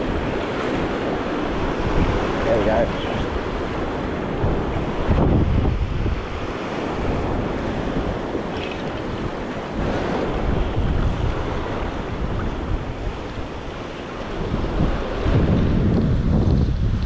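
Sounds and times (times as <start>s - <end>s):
small waves washing up beach: 0.0s - 17.0s
wind buffeting microphone: 0.0s - 17.0s.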